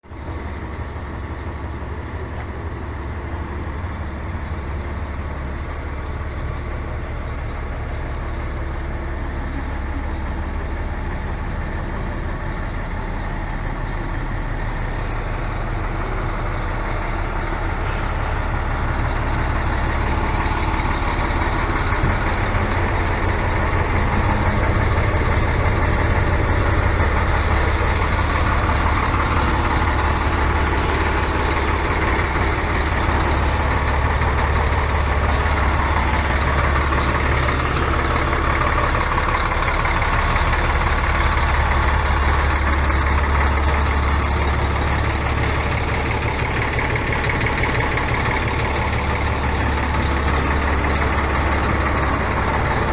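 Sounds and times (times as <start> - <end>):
diesel engine low hum: 0.0 - 52.9.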